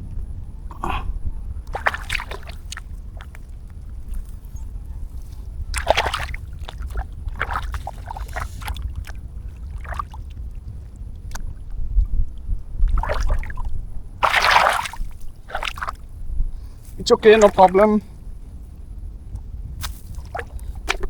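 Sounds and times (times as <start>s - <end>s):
wind rumble on microphone: 0.0s - 21.0s
water splashing and sloshing: 1.5s - 18.1s, 19.8s - 21.0s.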